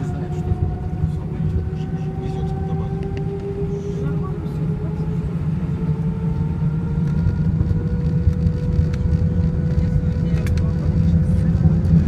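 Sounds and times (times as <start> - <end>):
jet engines spooling up: 0.0 - 12.0.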